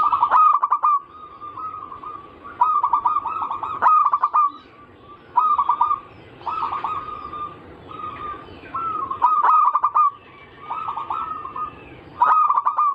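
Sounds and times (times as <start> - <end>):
doves cooing: 0.0 - 12.9.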